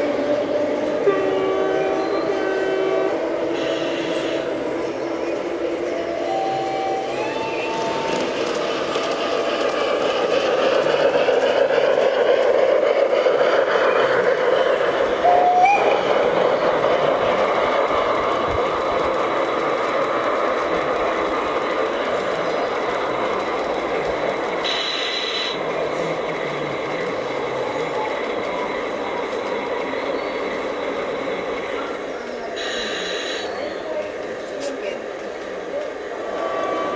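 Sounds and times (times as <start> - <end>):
model train rolling rumble: 0.0 - 36.9.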